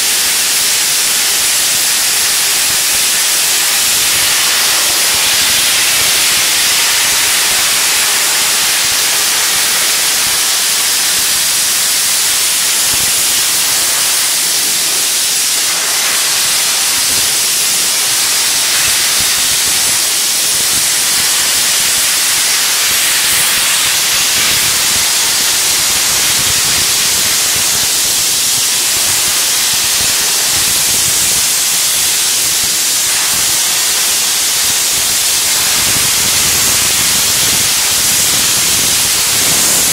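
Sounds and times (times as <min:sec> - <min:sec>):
abrasive blast nozzle hissing: 0:00.0 - 0:39.9.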